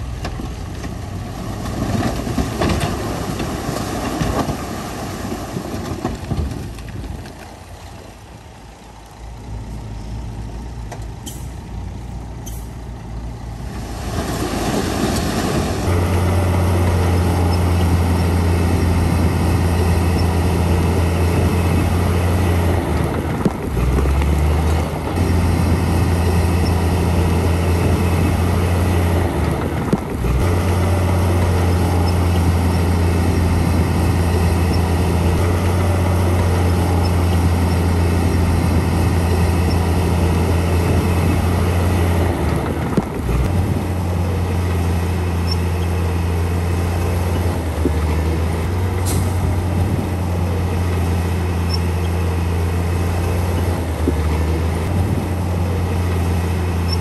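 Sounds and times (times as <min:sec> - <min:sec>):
heavy diesel machine engine: 0:00.0 - 0:57.0.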